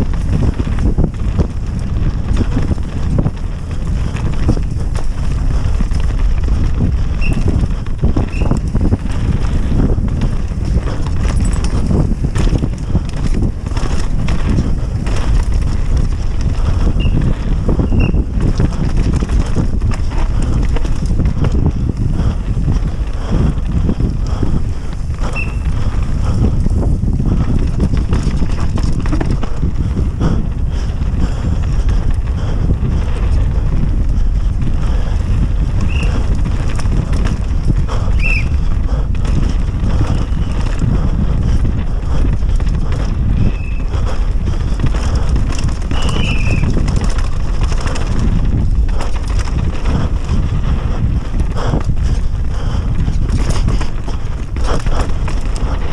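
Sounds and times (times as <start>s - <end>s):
bike rattling over bumps: 0.0s - 55.9s
tyres on dirt: 0.0s - 55.9s
wind on microphone: 0.0s - 55.9s.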